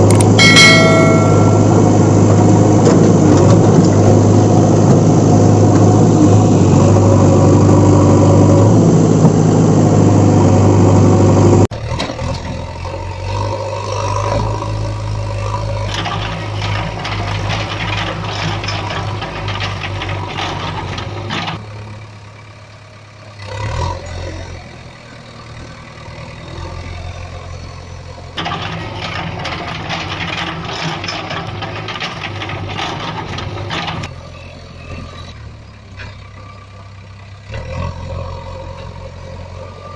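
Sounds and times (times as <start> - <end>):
heavy vehicle engines running: 0.0 - 39.9.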